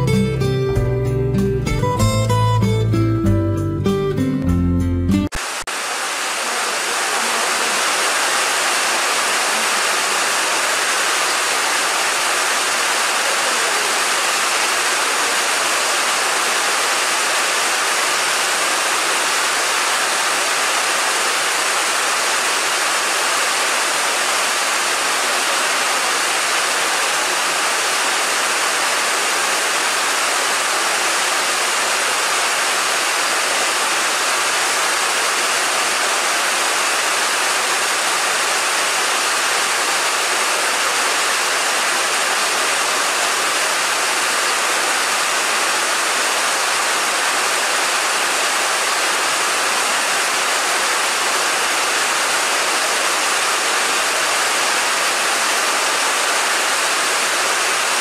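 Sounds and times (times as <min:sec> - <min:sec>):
heavy rain: 0:00.0 - 0:00.6, 0:05.3 - 0:58.0.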